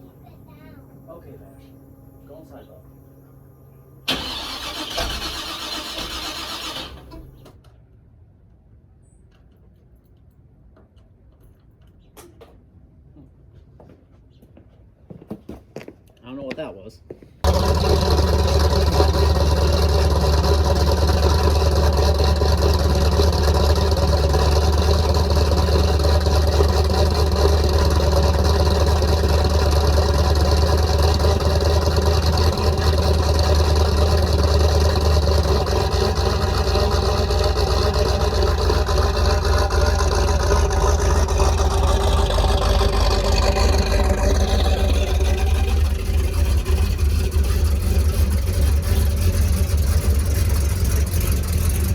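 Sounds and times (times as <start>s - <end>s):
loud car engine running: 0.0s - 7.5s, 17.4s - 51.9s.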